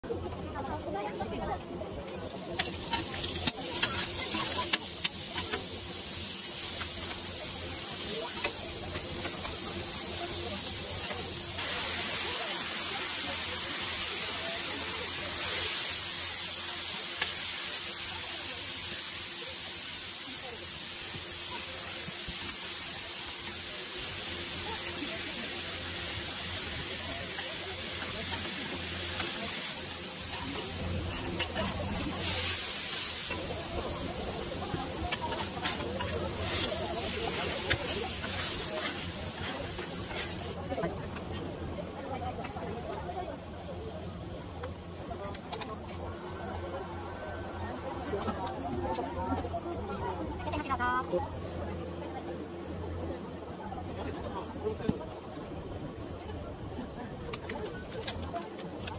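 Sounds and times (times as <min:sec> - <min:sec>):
noodles sizzling on griddle: 0:00.2 - 0:58.9.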